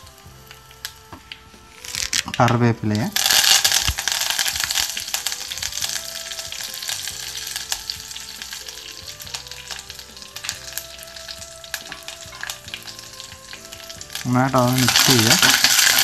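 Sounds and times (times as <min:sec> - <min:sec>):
leaves sizzling in hot oil: 0:00.0 - 0:16.0.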